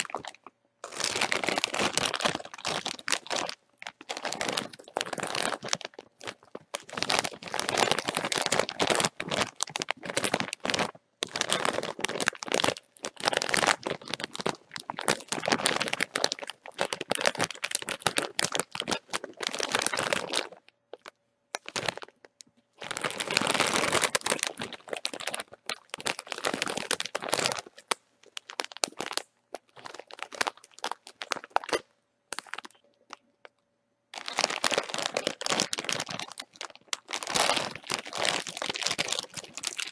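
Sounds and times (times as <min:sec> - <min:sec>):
chip bag crinkling: 0:00.0 - 0:22.2, 0:22.8 - 0:33.2, 0:34.2 - 0:39.9.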